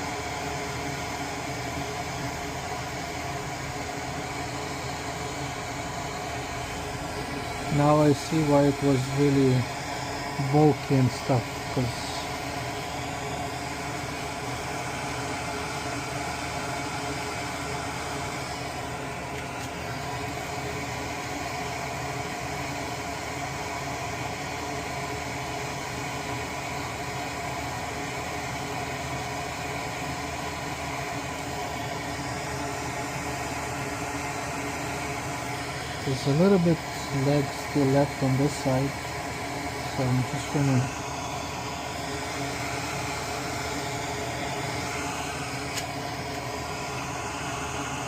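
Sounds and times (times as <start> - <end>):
fan whirring: 0.0 - 48.0.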